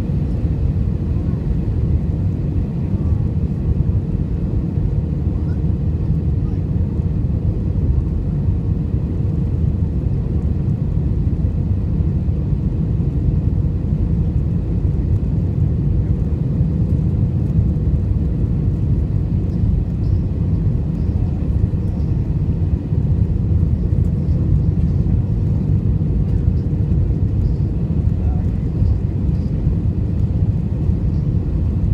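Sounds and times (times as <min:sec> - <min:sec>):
aircraft engine and airflow rumble: 0:00.0 - 0:31.9
faint constant hum: 0:00.0 - 0:31.9.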